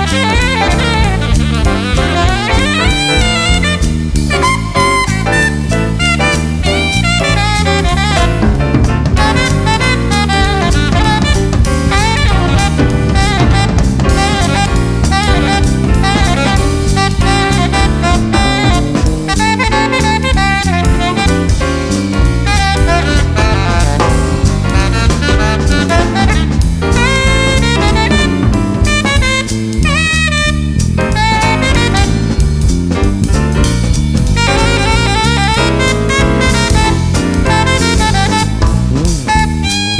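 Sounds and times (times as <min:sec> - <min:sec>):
drum kit: 0:00.0 - 0:39.9
saxophone melody: 0:00.0 - 0:39.9
stepping bass line: 0:00.0 - 0:39.9.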